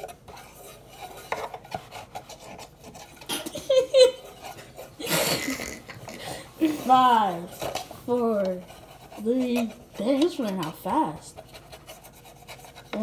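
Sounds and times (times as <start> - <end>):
paintbrush scraping on wood: 0.0 - 5.1, 6.6 - 13.0.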